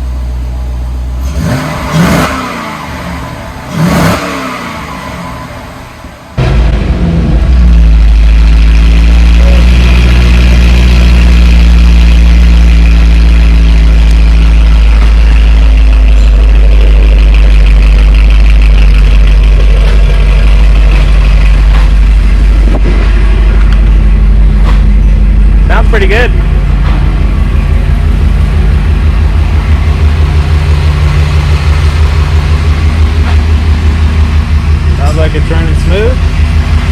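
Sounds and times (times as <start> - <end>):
car engine idling loudly: 0.0 - 36.9.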